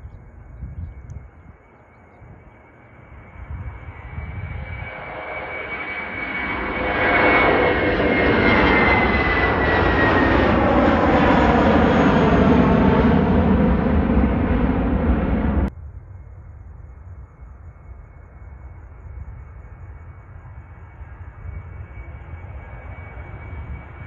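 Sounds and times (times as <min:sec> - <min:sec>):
jet airliner taking off: 0:00.2 - 0:16.2, 0:17.6 - 0:24.0.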